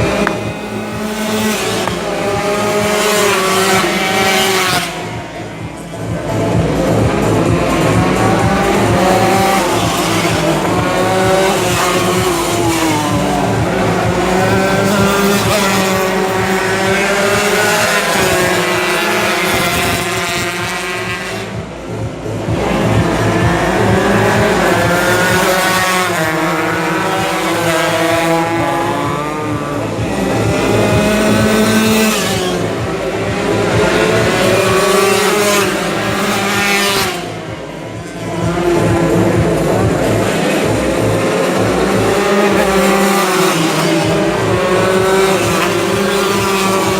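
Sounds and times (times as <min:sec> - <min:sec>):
racing motorcycle engines: 0:00.0 - 0:46.9.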